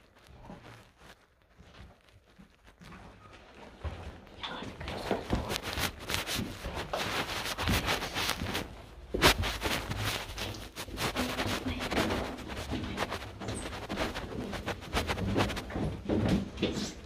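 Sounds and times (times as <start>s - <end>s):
rustling and crunching: 0.0s - 17.0s.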